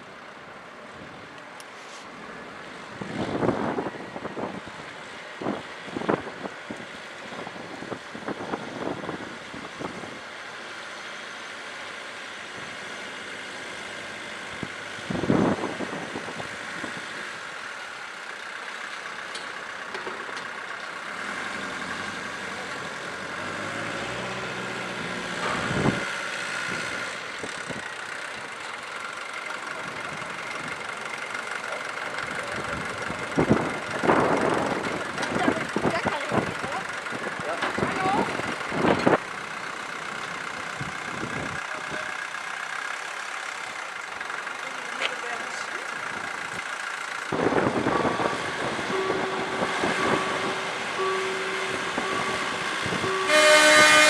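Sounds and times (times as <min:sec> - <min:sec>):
railcar engine running: 0:00.0 - 0:54.0.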